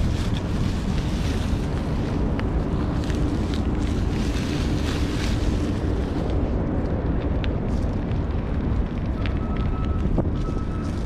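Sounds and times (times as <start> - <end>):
bike rumbling on dirt trail: 0.0 - 11.0
clicks and crunches: 0.0 - 11.0
wind buffeting microphone: 0.0 - 11.0.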